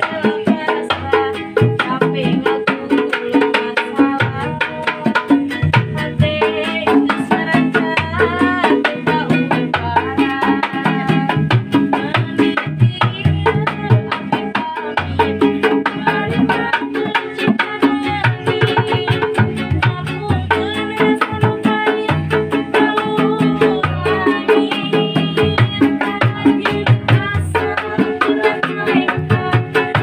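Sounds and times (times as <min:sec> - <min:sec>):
hand drums beating: 0:00.0 - 0:30.0
street band playing upbeat tune: 0:00.0 - 0:30.0.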